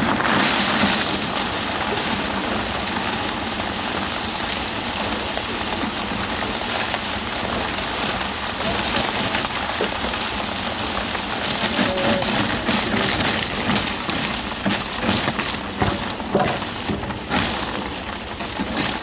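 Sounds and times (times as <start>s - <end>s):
cement mixer engine running: 0.0s - 19.0s
concrete rattling down a chute: 0.0s - 19.0s.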